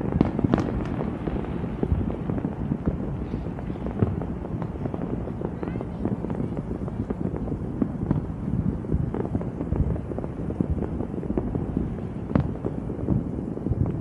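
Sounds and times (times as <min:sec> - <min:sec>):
fireworks popping and crackling: 0:00.0 - 0:14.0
wind rumble on microphone: 0:00.0 - 0:14.0.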